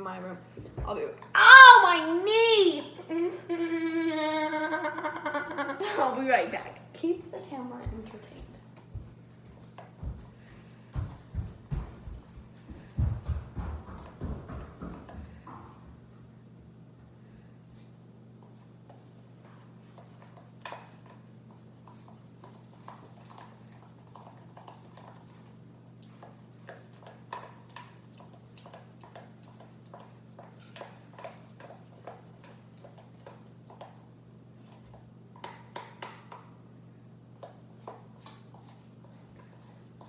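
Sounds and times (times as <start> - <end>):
steady low hum: 2.8 - 35.4.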